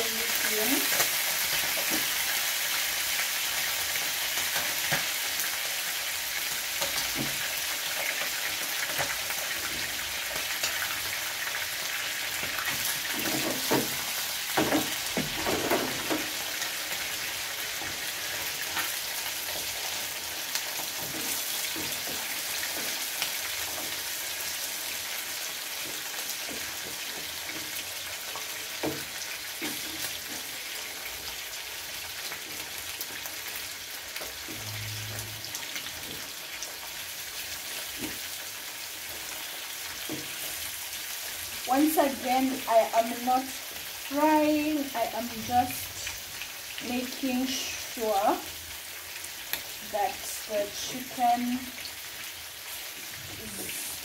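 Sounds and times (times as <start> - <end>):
chicken sizzling in oil: 0.0 - 54.0.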